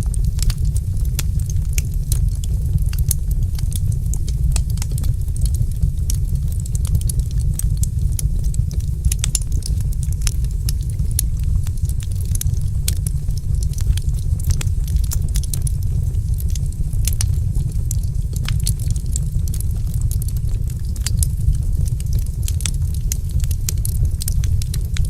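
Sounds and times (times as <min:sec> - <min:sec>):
fire crackling and popping: 0:00.0 - 0:25.0
low rumble: 0:00.0 - 0:25.0.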